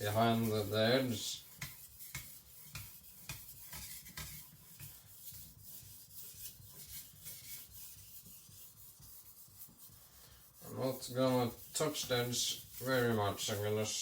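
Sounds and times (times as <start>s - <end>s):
blade scraping on water stone: 0.0s - 13.9s.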